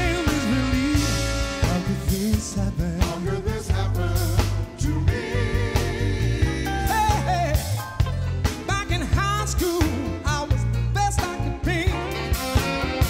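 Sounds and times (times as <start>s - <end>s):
funk soul band playing: 0.0s - 13.0s.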